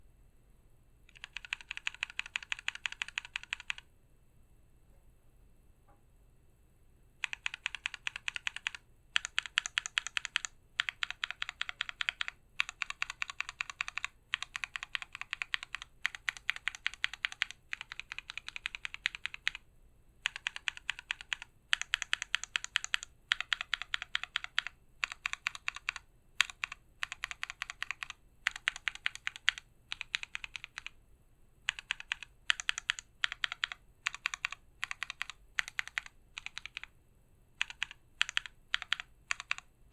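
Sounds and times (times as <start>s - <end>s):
typing on mechanical keyboard: 1.1s - 3.9s, 7.2s - 19.6s, 20.2s - 31.0s, 31.7s - 36.9s, 37.6s - 39.7s.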